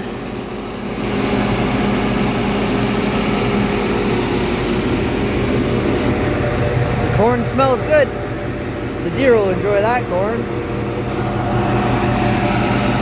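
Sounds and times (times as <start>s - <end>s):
farm engines running: 0.0s - 13.0s.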